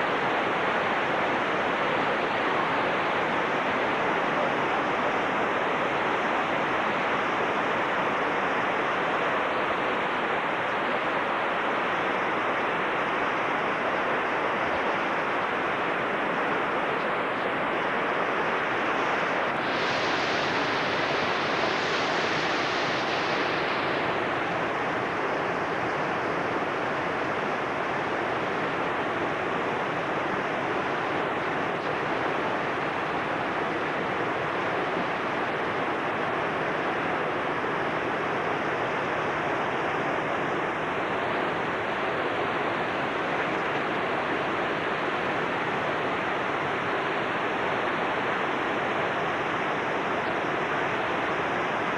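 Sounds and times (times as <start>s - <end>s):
whitewater rapids roaring: 0.0s - 51.9s.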